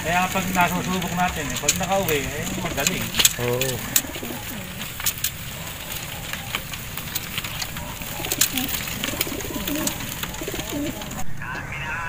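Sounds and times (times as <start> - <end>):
pigeons cooing: 0.0 - 11.2.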